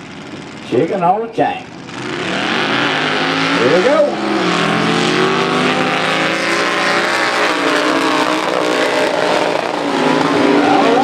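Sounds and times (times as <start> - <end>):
truck engines at full throttle: 0.0 - 11.0.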